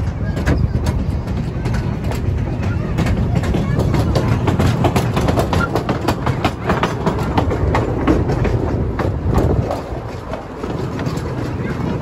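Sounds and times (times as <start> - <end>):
train rumbling along track: 0.0 - 12.0
wheels clattering over rails: 0.0 - 12.0.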